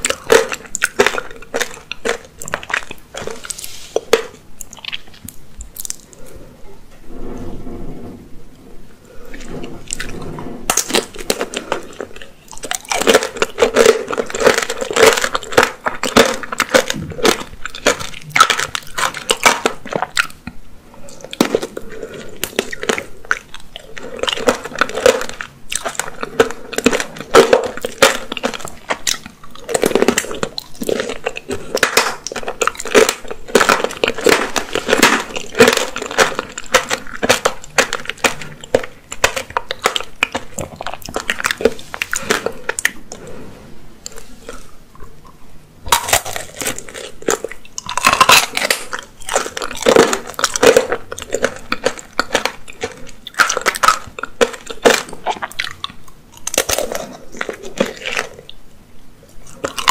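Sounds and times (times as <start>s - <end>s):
crunching hard candy: 0.0s - 6.4s, 9.2s - 59.9s.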